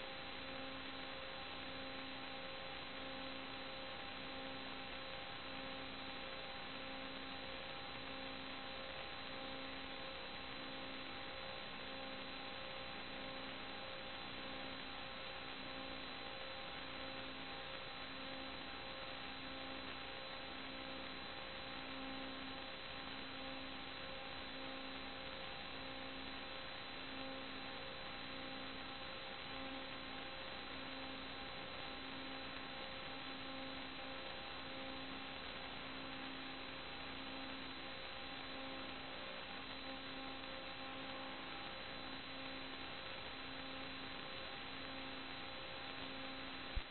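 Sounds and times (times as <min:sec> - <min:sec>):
electrical hum and hiss: 0:00.0 - 0:46.9.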